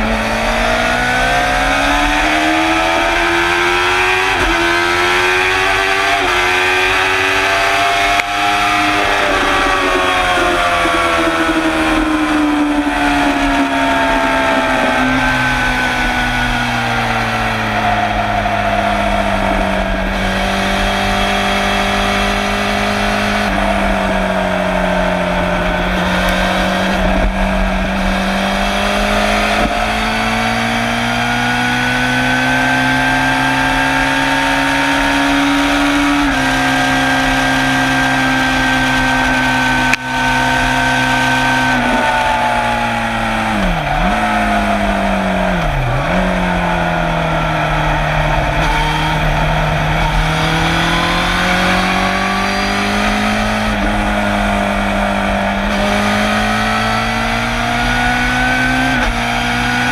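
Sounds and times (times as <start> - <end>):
motorcycle engine pulling hard: 0.0 - 59.9.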